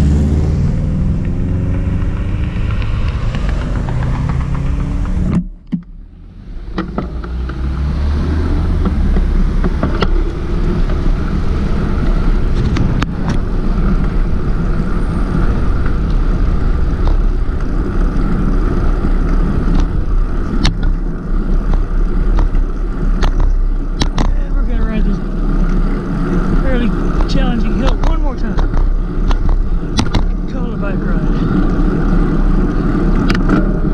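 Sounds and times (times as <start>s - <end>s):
road and traffic rumble: 0.0s - 33.9s.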